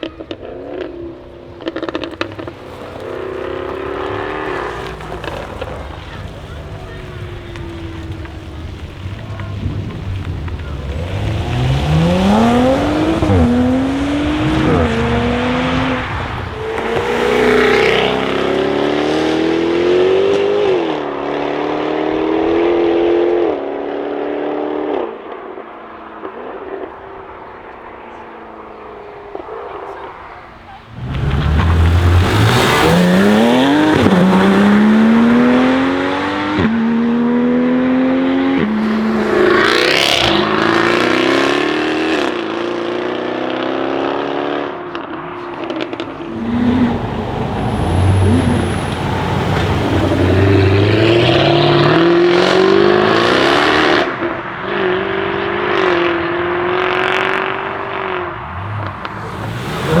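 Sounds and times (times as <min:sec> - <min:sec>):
car engine accelerating hard: 0:00.0 - 1:00.0.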